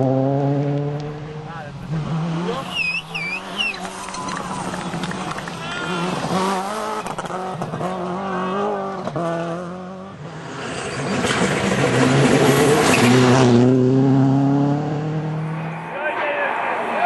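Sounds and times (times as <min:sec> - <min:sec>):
rally car engine revving: 0:00.0 - 0:15.9
car passing at speed: 0:00.0 - 0:17.0.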